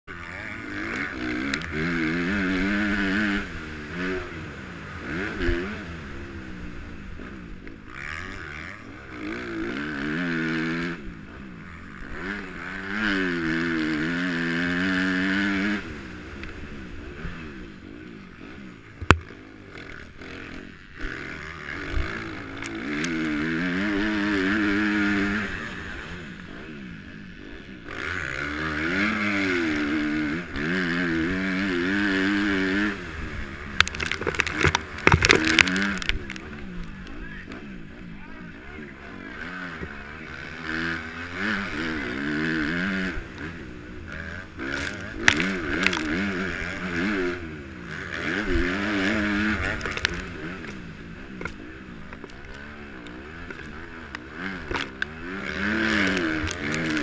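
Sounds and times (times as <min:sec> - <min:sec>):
motocross bike engine revving: 0:00.1 - 0:57.0.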